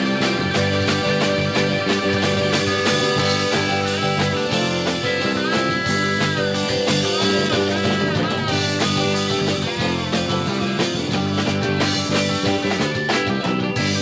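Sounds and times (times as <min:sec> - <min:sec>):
lead guitar bending notes: 0:00.0 - 0:14.0
live rock band playing: 0:00.0 - 0:14.0.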